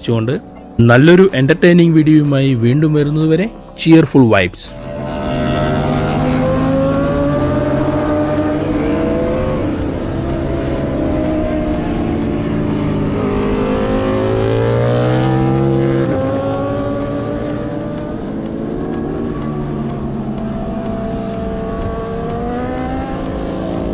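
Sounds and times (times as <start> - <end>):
racing motorcycle engines revving: 4.7 - 23.9.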